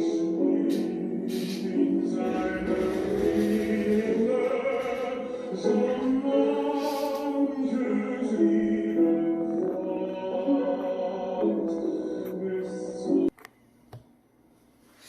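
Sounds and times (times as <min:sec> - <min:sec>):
choral singing: 0:00.0 - 0:13.3.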